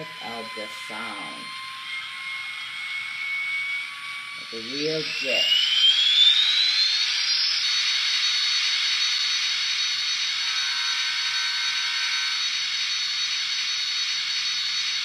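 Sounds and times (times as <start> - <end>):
model jet engine whine from speaker: 0.0 - 15.0.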